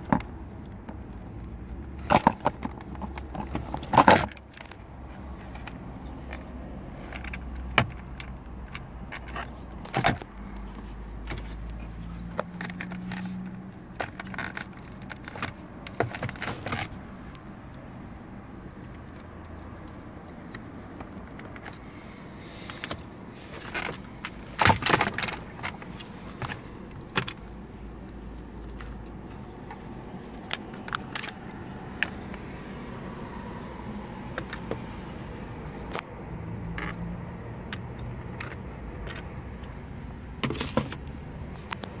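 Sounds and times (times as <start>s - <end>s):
plastic clicks and rattles: 0.0s - 21.8s, 22.6s - 32.8s, 34.3s - 39.8s, 40.4s - 42.0s.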